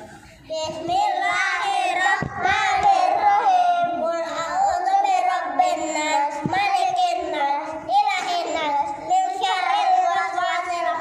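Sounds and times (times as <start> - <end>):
child chanting: 0.0 - 11.0.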